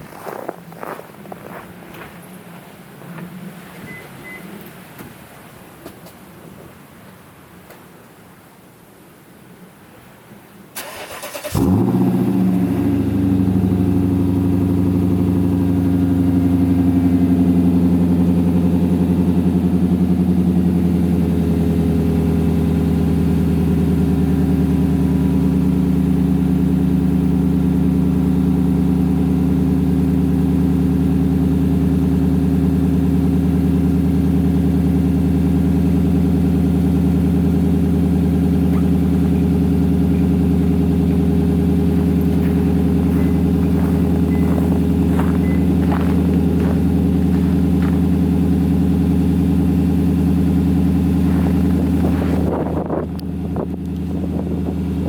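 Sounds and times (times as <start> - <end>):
loud engine idling: 10.9 - 55.0.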